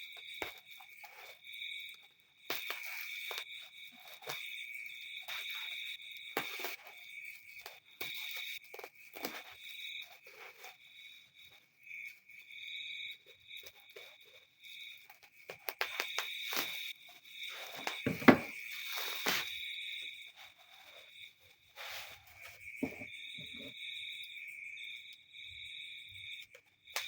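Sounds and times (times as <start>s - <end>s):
insect chirring trills: 0.0s - 27.0s.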